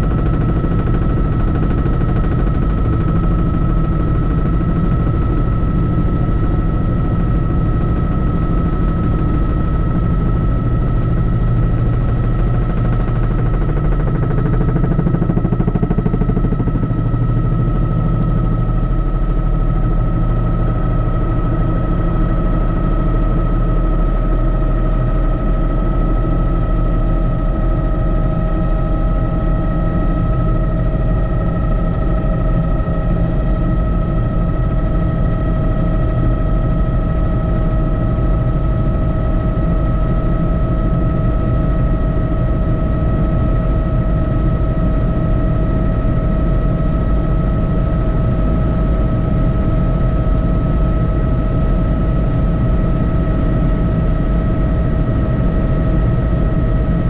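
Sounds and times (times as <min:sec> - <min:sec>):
helicopter rotor chopping: 0:00.0 - 0:54.2.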